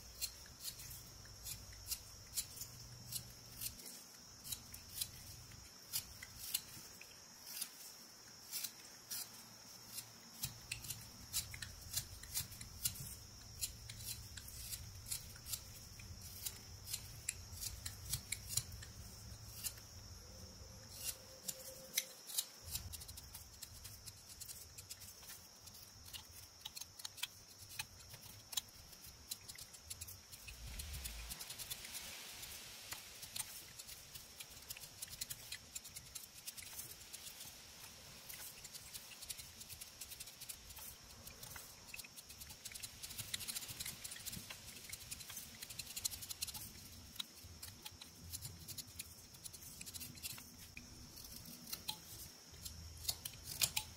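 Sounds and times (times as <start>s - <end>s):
knife carving wood: 0.0s - 53.9s.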